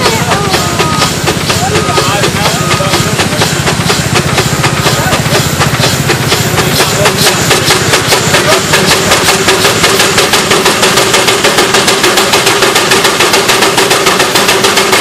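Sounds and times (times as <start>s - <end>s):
steam engine exhaust beating: 0.0s - 15.0s.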